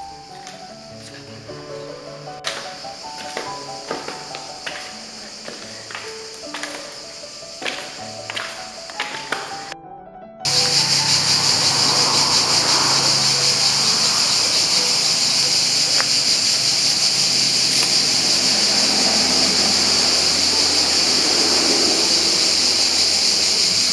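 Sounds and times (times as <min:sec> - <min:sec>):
cicadas buzzing: 0:00.0 - 0:09.8, 0:10.5 - 0:23.9.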